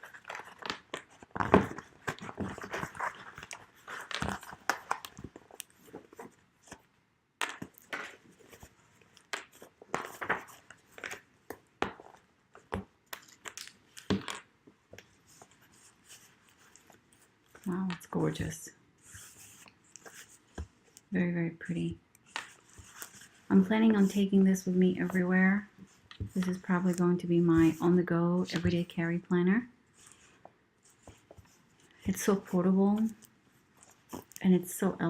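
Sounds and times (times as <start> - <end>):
planner cover rustling: 0.0 - 21.1, 22.2 - 29.2, 29.9 - 34.4.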